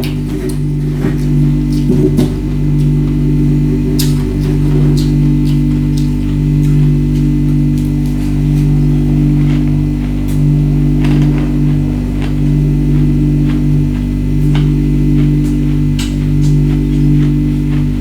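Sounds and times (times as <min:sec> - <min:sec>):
low drone music: 0:00.0 - 0:18.0.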